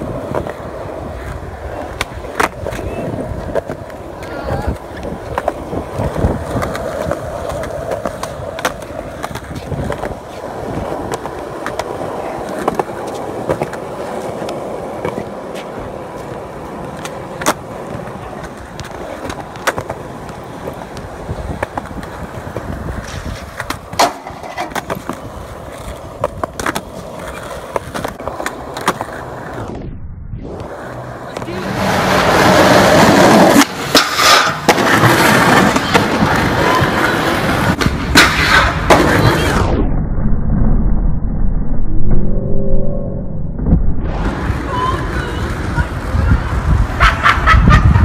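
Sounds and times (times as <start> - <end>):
skateboard clacking on ground: 0.0 - 29.6, 30.6 - 39.6
skateboard wheels rolling on concrete: 0.0 - 41.0, 43.6 - 48.0.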